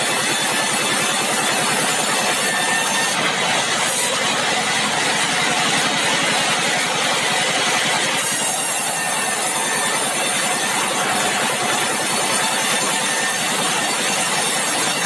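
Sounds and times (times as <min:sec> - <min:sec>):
saw cutting through log: 0:00.0 - 0:15.0
sawmill engine running: 0:00.0 - 0:15.0.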